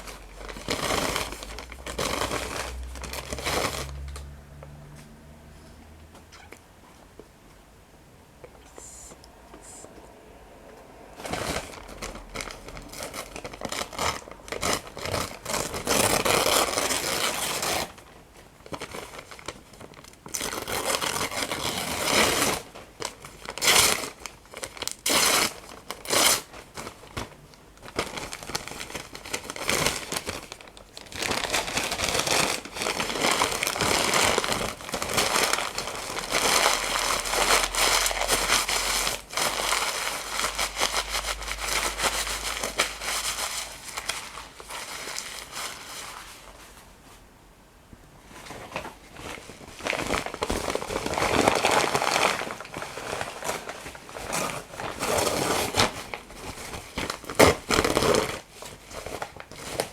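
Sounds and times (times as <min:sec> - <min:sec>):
paper crumpling and tearing: 0:00.0 - 0:04.1, 0:11.2 - 0:46.8, 0:48.3 - 0:59.9.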